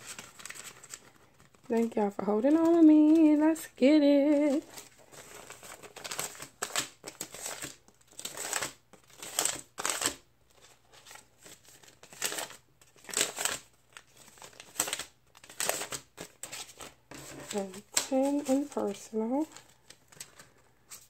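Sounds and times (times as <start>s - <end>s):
paper bills and plastic rustling: 0.0s - 21.0s.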